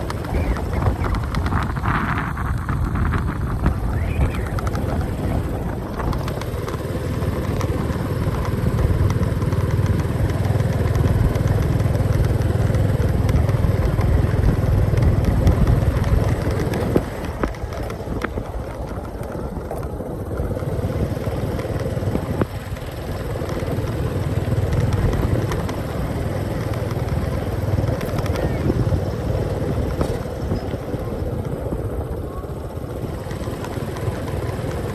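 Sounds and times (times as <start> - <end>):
air rush and road noise: 0.0 - 34.9
motorcycle engine drone: 0.0 - 34.9.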